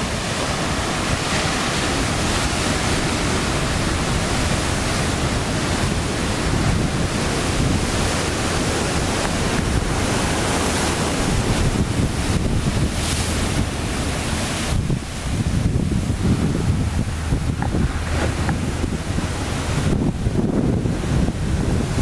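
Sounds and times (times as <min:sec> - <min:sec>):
ocean surf breaking on rocks: 0:00.0 - 0:22.0
wind buffeting microphone: 0:00.0 - 0:22.0.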